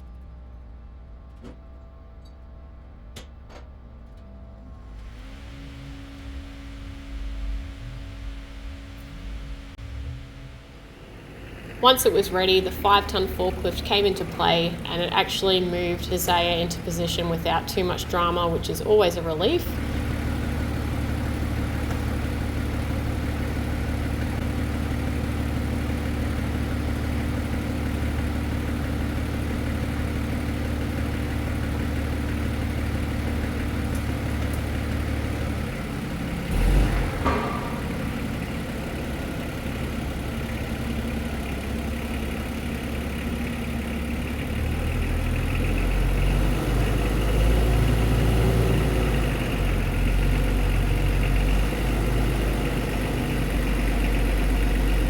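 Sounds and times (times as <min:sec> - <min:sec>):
forklift engine running: 0:00.0 - 0:55.0.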